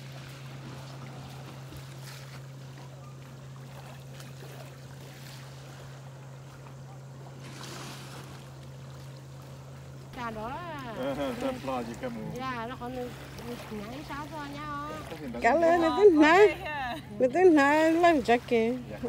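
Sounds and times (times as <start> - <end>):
faint water wash: 0.0 - 19.0
steady low hum: 0.0 - 19.0.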